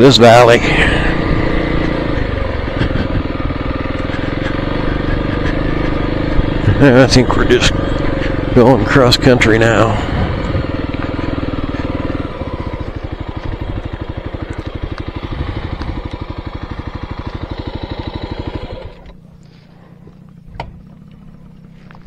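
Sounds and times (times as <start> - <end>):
low hum: 0.0 - 22.0
motorcycle engine running: 0.0 - 22.0.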